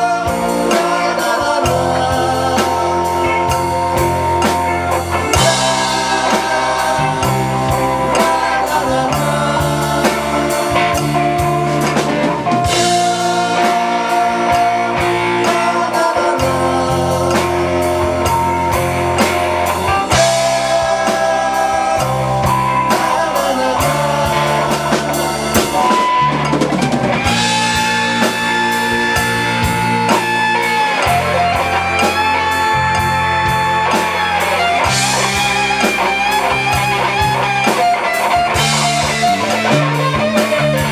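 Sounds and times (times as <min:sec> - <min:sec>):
bass line: 0:00.0 - 0:40.9
drum kit: 0:00.0 - 0:40.9
lead guitar melody with bent notes: 0:00.0 - 0:40.9.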